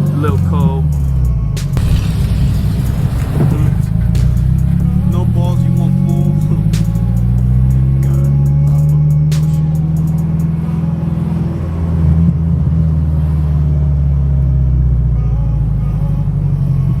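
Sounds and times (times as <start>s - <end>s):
straight-piped engine drone: 0.0s - 17.0s.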